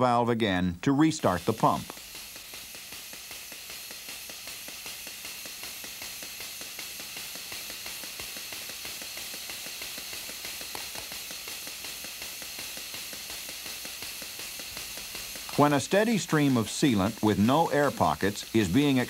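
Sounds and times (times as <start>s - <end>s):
air exhaust hiss: 0.8s - 19.0s
pump mechanism ticking: 0.9s - 19.0s.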